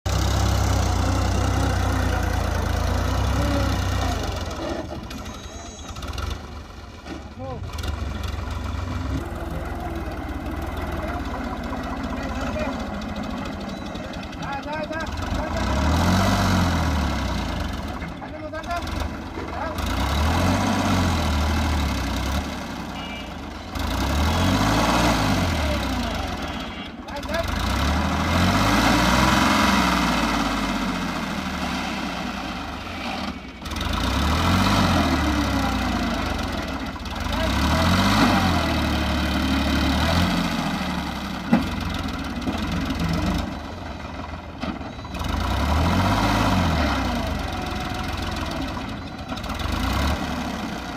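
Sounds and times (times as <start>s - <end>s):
tractor diesel engine idling: 0.0s - 50.9s.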